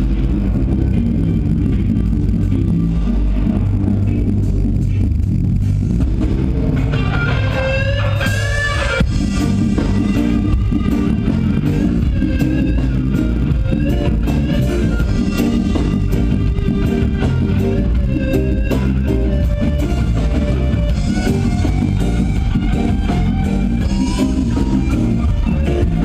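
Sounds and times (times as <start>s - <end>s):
heavy bass line: 0.0s - 26.0s
live reggae band playing: 0.0s - 26.0s
steady drum hits: 3.2s - 26.0s.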